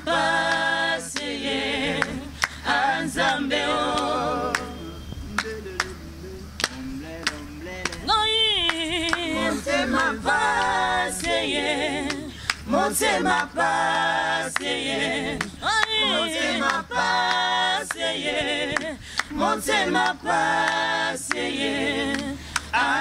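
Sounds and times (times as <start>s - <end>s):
group singing a cappella gospel: 0.0s - 23.0s.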